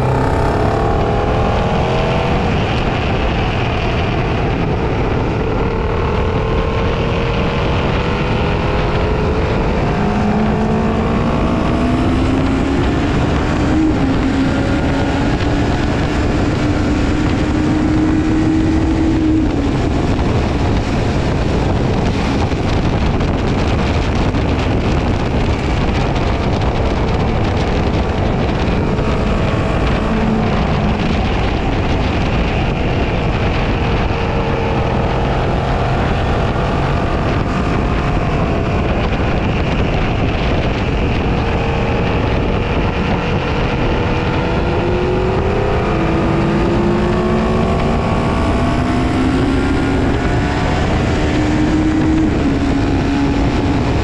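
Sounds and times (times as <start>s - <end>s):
motorcycle engine accelerating: 0.0s - 54.0s
wind noise on microphone: 0.0s - 54.0s.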